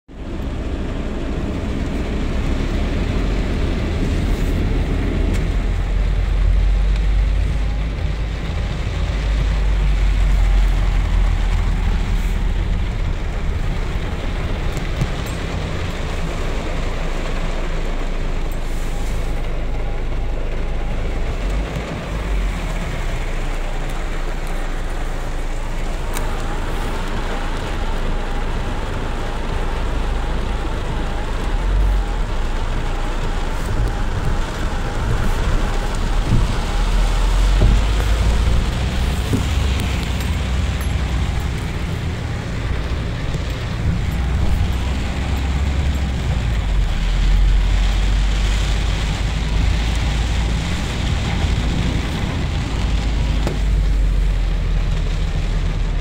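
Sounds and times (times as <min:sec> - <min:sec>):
heavy rain on car roof: 0:00.1 - 0:56.0
low rumble from car: 0:00.1 - 0:56.0.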